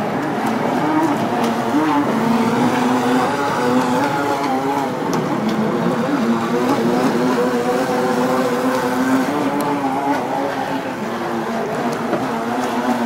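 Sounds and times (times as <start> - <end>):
electric boat motor whine: 0.0 - 13.0.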